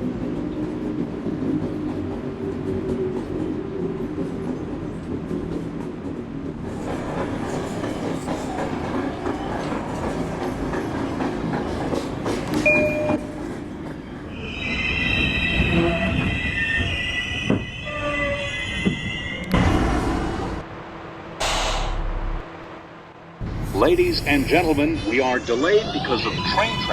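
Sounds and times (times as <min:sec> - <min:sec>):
subway train rumble: 0:00.0 - 0:26.9.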